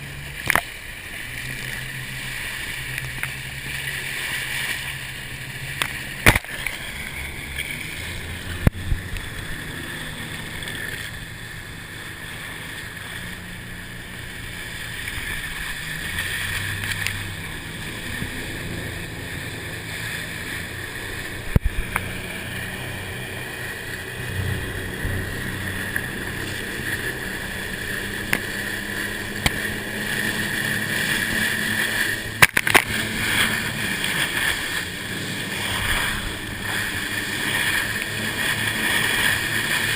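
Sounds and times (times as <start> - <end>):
motorboat engine: 0.0 - 39.9
water rushing: 0.0 - 39.9.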